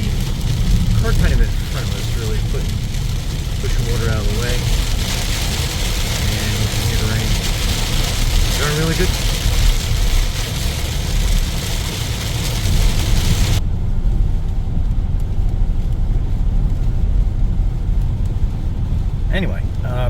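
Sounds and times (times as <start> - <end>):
rain and water spray hiss: 0.0 - 20.0
tyre road rumble: 0.0 - 20.0.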